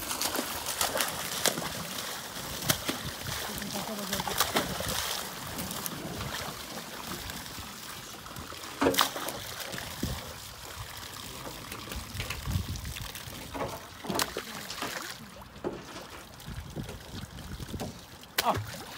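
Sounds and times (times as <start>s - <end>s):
water pouring into pond: 0.0s - 18.9s.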